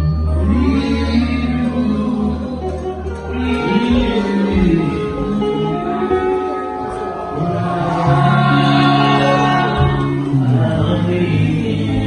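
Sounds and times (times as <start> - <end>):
held instrumental notes: 0.0 - 12.0
low bass line: 0.0 - 12.0.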